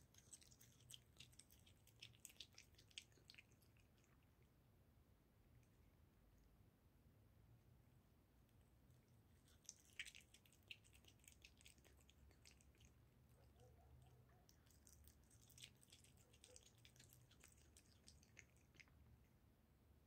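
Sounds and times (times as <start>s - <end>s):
cat chewing and licking: 0.0s - 6.6s, 8.5s - 19.4s.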